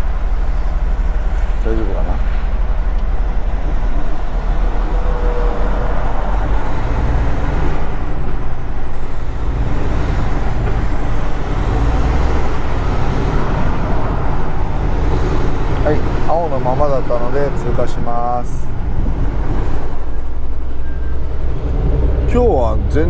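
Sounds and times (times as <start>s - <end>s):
truck diesel engine rumbling: 0.0s - 23.0s.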